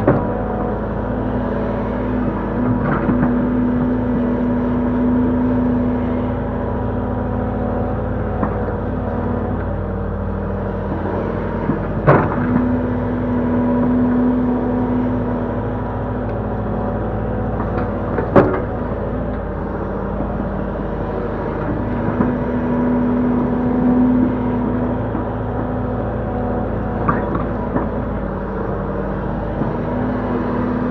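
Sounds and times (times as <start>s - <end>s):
excavator diesel engine hum: 0.0s - 30.9s.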